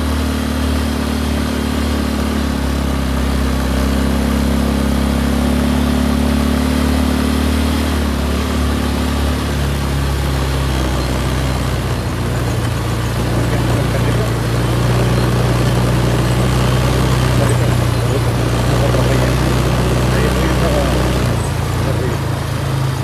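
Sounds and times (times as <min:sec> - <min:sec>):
quad bike engine running: 0:00.0 - 0:23.0.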